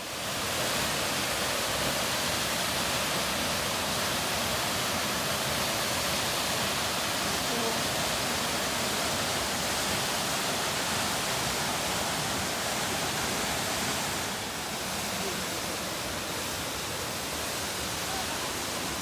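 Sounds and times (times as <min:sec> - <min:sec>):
waterfall roar: 0:00.0 - 0:19.0.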